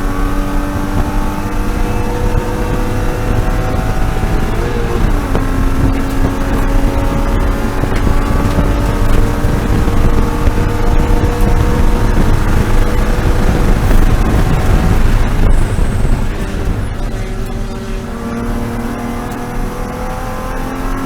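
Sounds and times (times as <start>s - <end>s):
race car engine at high revs: 0.0s - 21.0s
wind noise: 0.0s - 21.0s.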